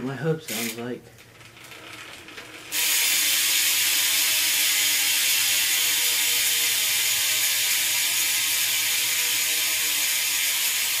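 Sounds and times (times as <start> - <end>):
bicycle freewheel ratcheting buzz: 0.5 - 11.0.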